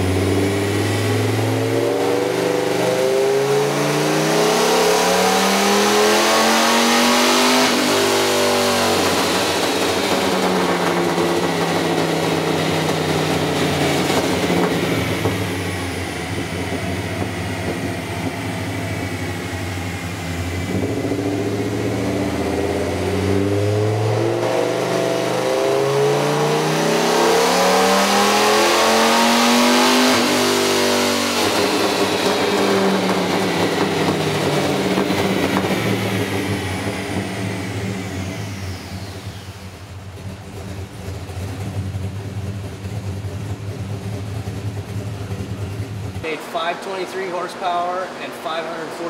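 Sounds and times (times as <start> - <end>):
engine revving at full throttle: 0.0 - 48.8.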